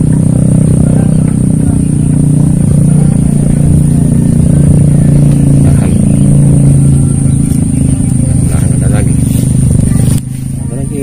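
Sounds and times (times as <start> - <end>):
engine running loudly: 0.0 - 11.0.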